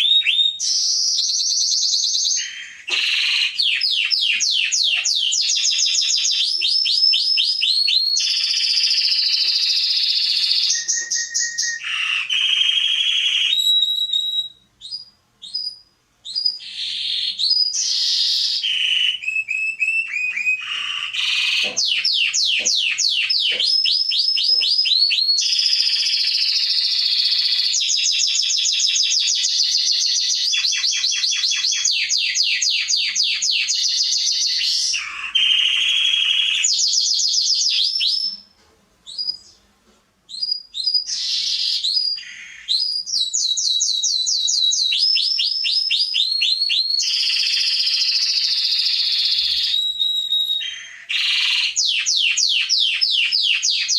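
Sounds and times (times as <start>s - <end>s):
canary singing trills: 0.0s - 38.5s, 39.1s - 39.7s, 40.3s - 53.9s.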